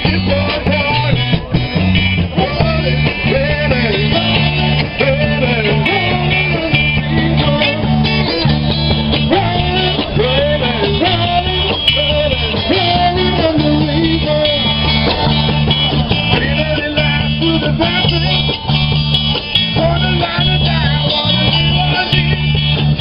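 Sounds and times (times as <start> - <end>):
person singing: 0.0 - 23.0
rock band guitar and bass: 0.0 - 23.0.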